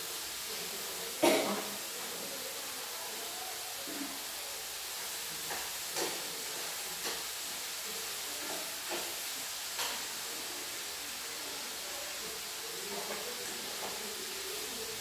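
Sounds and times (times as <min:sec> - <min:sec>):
greens sizzling in a pan: 0:00.0 - 0:15.0.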